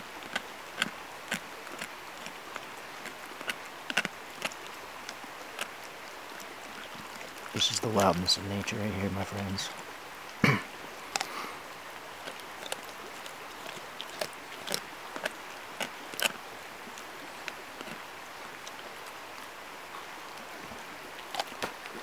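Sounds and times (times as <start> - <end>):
dog chewing fish: 0.0 - 9.9, 11.0 - 19.4, 21.1 - 22.0
faint steady hiss: 0.0 - 22.0.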